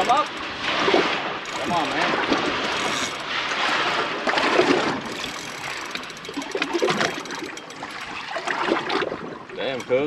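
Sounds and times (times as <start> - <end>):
water sloshing against boat hull: 0.0 - 10.0.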